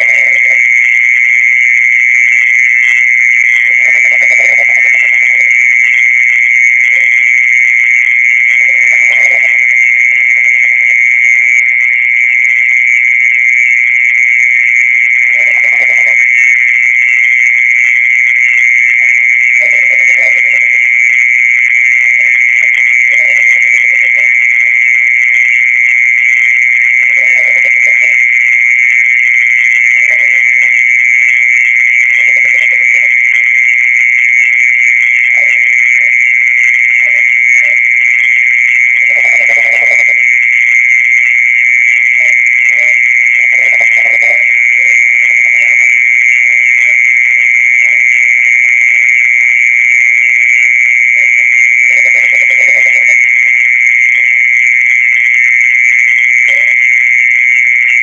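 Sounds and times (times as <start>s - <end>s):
cricket high-pitched trill: 0.0s - 58.0s
faint lower-pitched calls: 0.0s - 58.0s.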